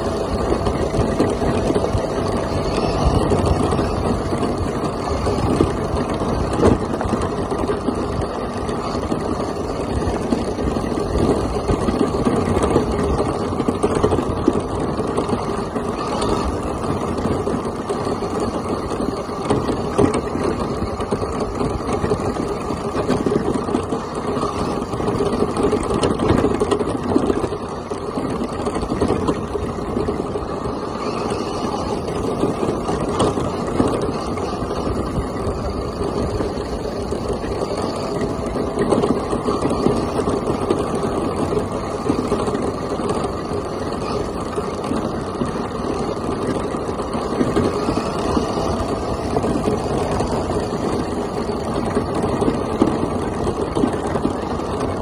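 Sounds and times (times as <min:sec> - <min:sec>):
rc truck tyres crunching gravel: 0:00.0 - 0:55.0.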